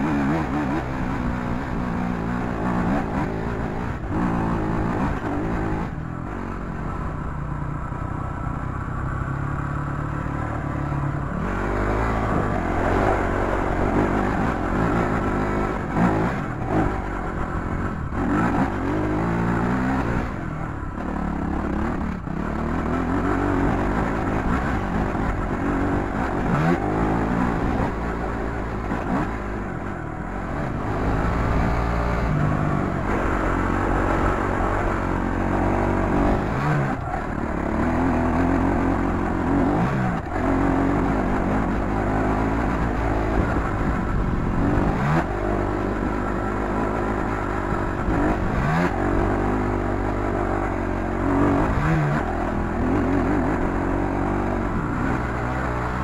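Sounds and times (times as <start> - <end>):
dirt bike engine revving: 0.0 - 6.8, 9.8 - 56.0.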